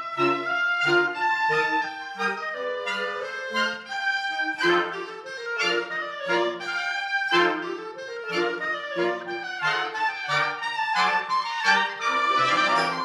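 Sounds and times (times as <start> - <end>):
wind band playing: 0.0 - 13.0.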